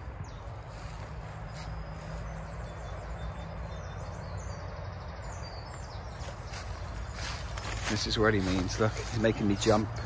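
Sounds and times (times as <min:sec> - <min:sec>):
distant road traffic rumble: 0:00.0 - 0:10.0
songbirds chirping: 0:00.0 - 0:10.0.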